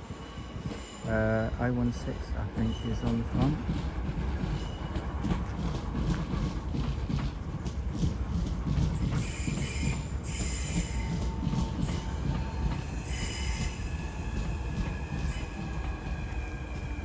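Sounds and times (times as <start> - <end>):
train wheels screeching: 0.0 - 6.6, 8.7 - 17.0
electric train rumbling: 0.0 - 17.0.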